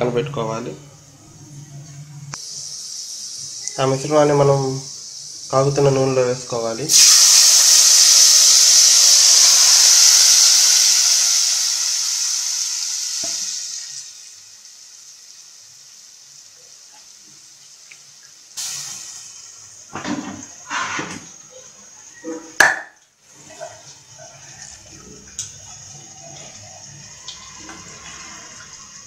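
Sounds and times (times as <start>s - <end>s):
fish sizzling in hot oil: 2.4s - 6.2s, 6.9s - 21.5s, 22.1s - 29.0s.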